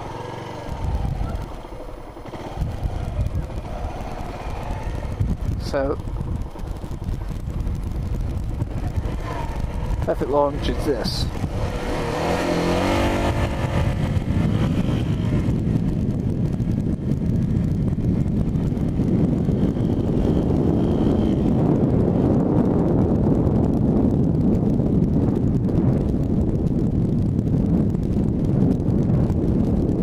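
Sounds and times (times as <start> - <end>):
motorcycle engine revving: 0.0 - 30.0
wind noise on microphone: 0.0 - 30.0.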